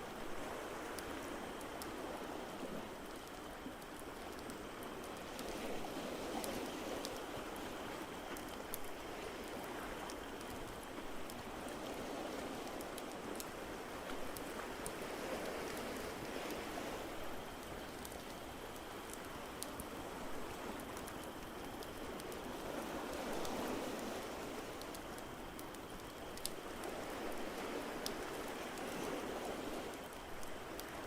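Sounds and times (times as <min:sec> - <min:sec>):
ocean waves: 0:00.0 - 0:31.0.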